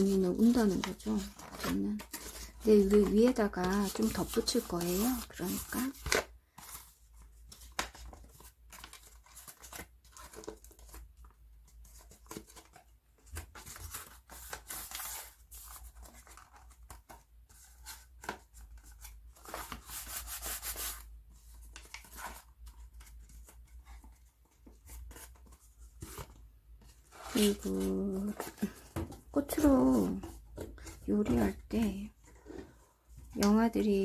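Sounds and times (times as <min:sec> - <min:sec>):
paper rustling and rubbing: 0:00.0 - 0:11.0, 0:11.8 - 0:31.6.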